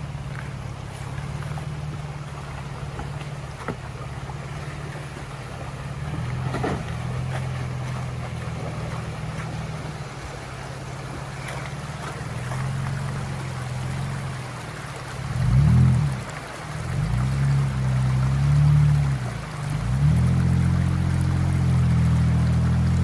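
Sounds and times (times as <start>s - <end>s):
engine droning at low revs: 0.0s - 23.0s.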